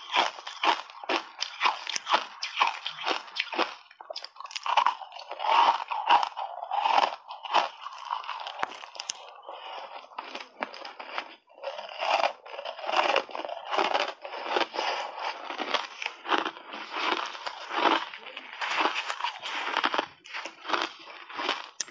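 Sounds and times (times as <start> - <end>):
ice crunching between teeth: 0.0 - 21.9.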